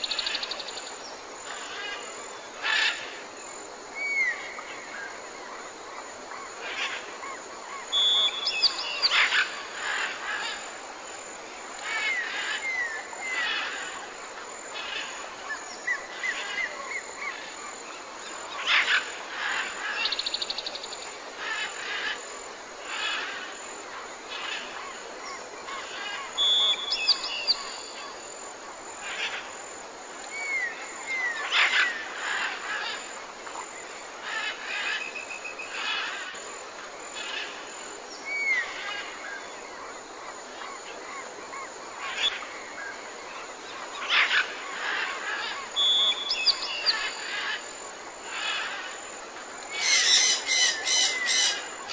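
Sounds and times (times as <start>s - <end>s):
steady background hiss: 0.0s - 51.9s
wild birds chirping and singing: 0.0s - 51.9s.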